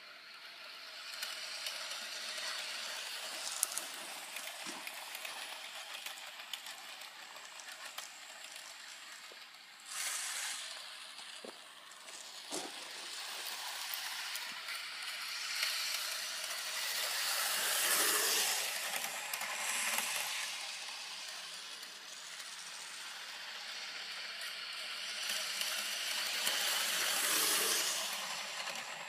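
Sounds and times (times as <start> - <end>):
model train rattling and whirring: 0.0 - 29.0.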